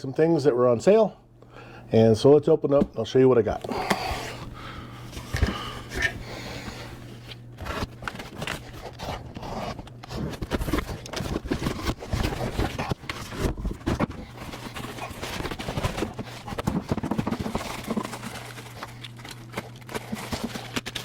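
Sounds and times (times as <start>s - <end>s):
steady low hum: 0.0s - 21.0s
cardboard packaging being handled: 3.6s - 21.0s.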